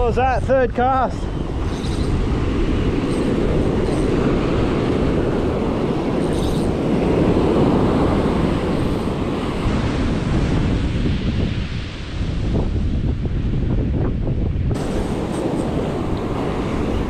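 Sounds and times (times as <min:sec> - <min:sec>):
surf breaking on sand: 0:00.0 - 0:13.2, 0:14.7 - 0:17.0
wind buffeting microphone: 0:00.0 - 0:17.0.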